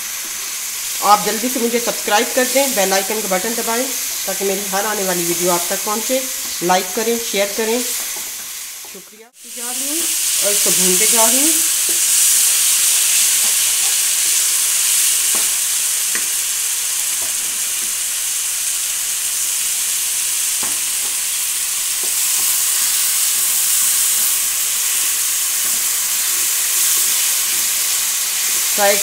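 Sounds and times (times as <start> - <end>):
lentils sizzling in ghee: 0.0 - 29.0.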